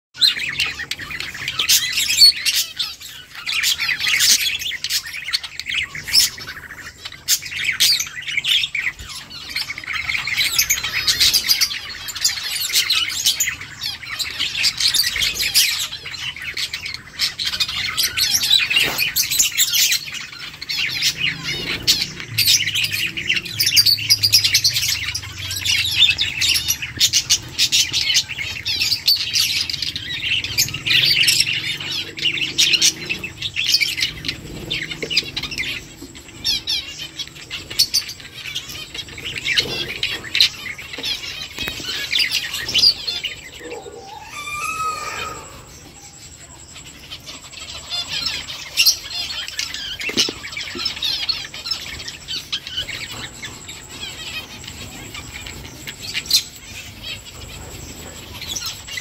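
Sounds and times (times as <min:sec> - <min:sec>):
lovebirds chirping and squawking: 0:00.2 - 0:59.0.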